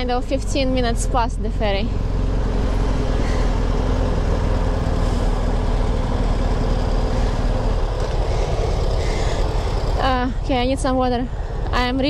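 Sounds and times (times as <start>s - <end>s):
motorcycle engine rumbling: 0.0s - 12.0s
road traffic: 0.0s - 12.0s.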